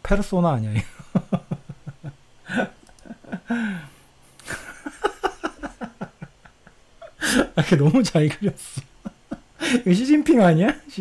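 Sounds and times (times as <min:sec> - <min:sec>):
man laughing: 0:00.7 - 0:11.0.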